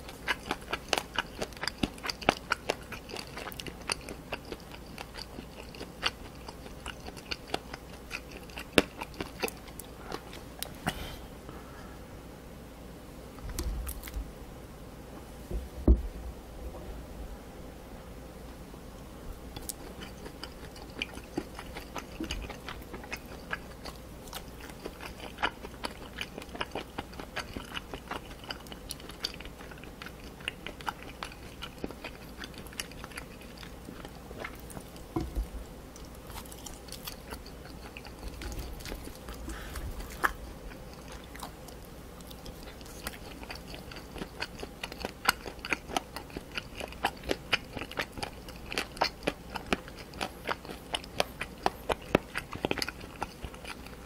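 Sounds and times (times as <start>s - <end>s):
crunchy wet chewing: 0.0s - 11.0s, 19.5s - 54.0s.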